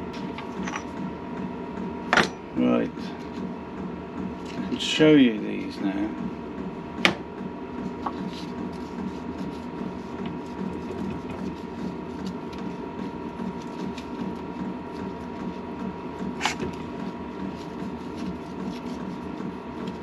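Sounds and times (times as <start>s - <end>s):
pulsing mechanical running noise: 0.0s - 20.0s.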